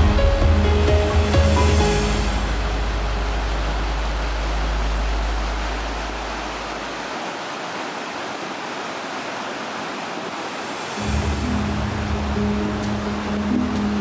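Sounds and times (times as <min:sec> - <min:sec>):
rush of white water: 0:00.0 - 0:14.0.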